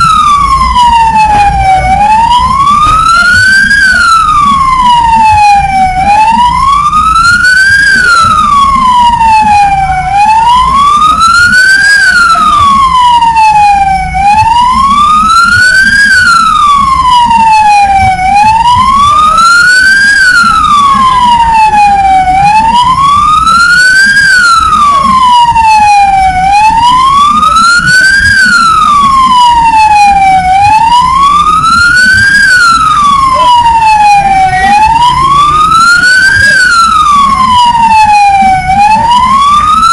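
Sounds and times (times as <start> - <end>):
siren wailing: 0.0 - 39.9.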